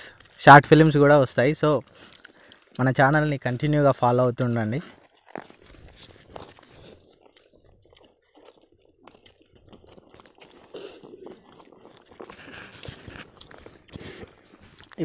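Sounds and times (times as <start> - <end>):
chewing: 0.0 - 15.0
food rustles and clicks: 0.0 - 15.0.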